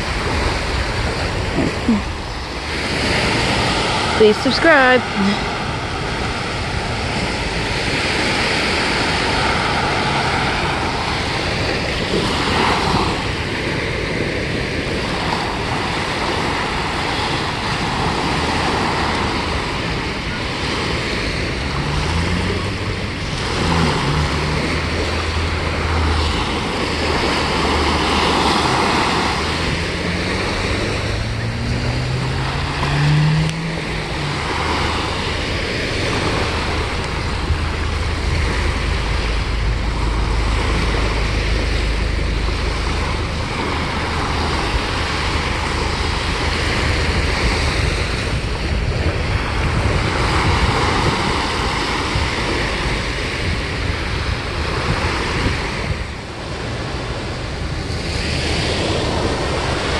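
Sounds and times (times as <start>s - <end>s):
low engine hum: 0.0s - 59.9s
waves breaking on beach: 0.0s - 59.9s.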